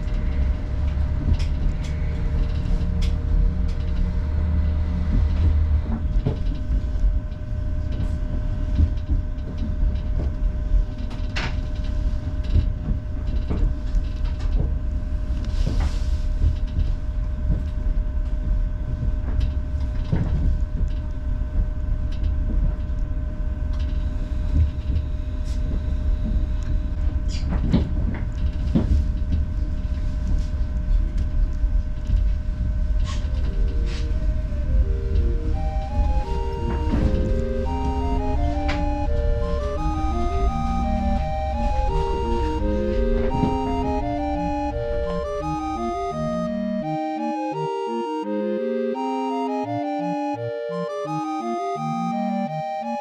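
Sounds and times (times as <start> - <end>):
constant whine: 0.0 - 53.0
diesel train rumbling: 0.0 - 53.0.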